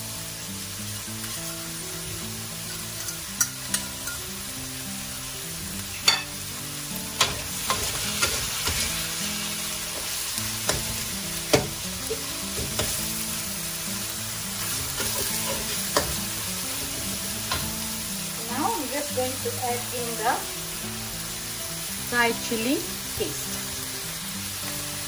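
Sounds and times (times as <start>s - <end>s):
food sizzling in a wok: 0.0s - 25.0s.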